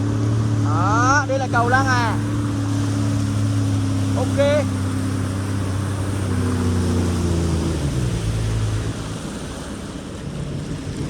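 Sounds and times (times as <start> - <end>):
jet ski engine easing off: 0.0 - 11.0
water rushing: 0.0 - 11.0.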